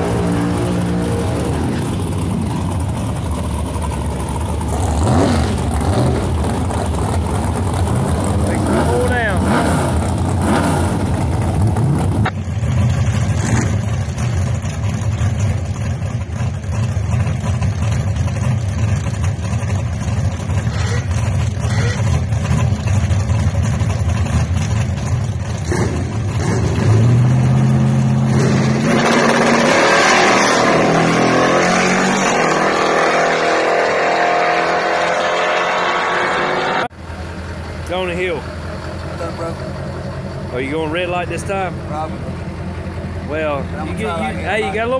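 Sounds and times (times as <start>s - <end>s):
pickup engine revving: 0.0s - 44.9s.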